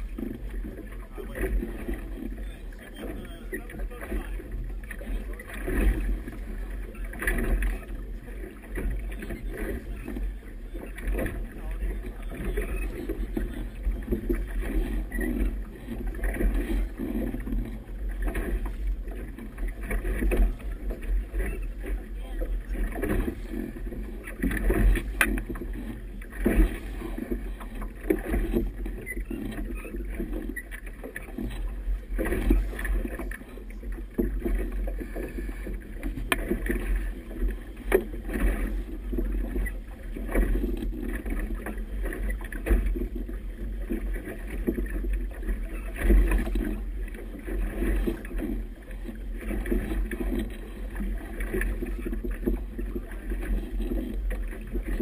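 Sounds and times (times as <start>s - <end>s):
waves slapping against hull: 0.0s - 55.0s.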